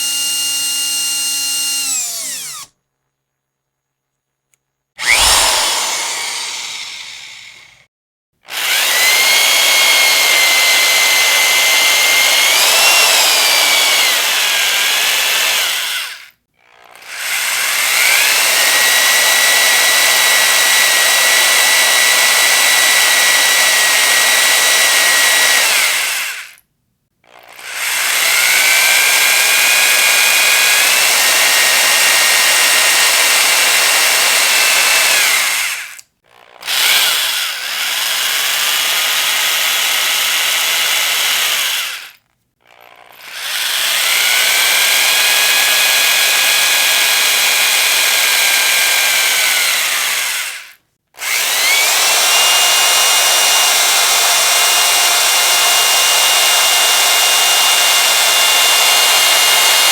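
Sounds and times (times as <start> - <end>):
electric drill whining: 0.0 - 2.7, 5.0 - 7.8, 8.5 - 16.3, 16.9 - 26.6, 27.6 - 36.0, 36.6 - 59.9.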